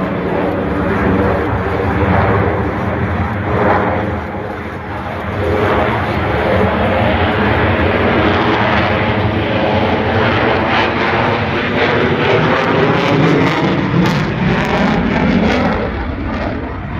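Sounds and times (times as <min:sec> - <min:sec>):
loud jet engine rumble: 0:00.0 - 0:16.9.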